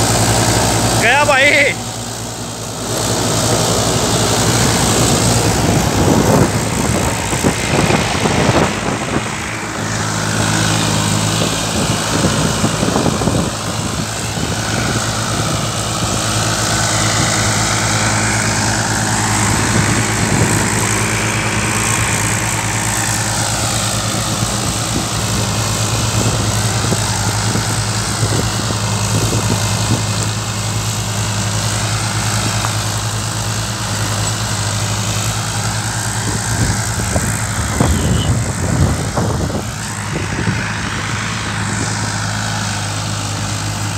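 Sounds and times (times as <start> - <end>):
broad rushing noise: 0.0 - 43.9
tractor diesel engine running: 0.0 - 43.9.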